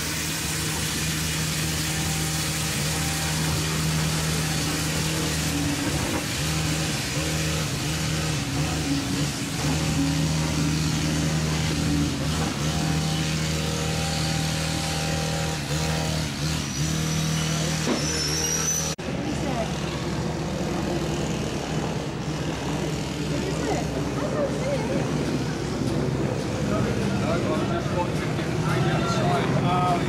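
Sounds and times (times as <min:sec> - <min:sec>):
train coaches rolling: 0:00.0 - 0:30.0
train engine drone: 0:00.0 - 0:30.0.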